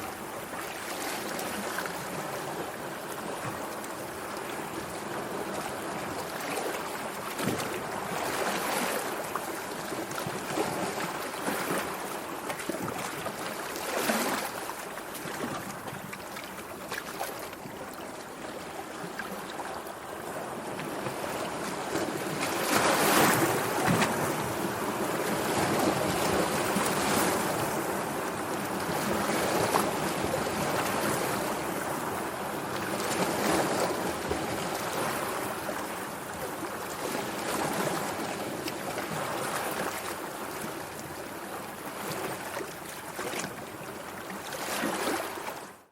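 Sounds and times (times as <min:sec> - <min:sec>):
sea water lapping and splashing: 0:00.0 - 0:45.9.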